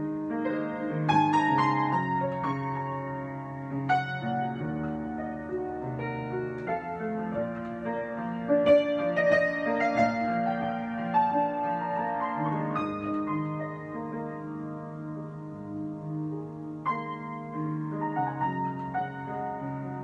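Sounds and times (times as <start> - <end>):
solo piano chords and melody: 0.0 - 20.0.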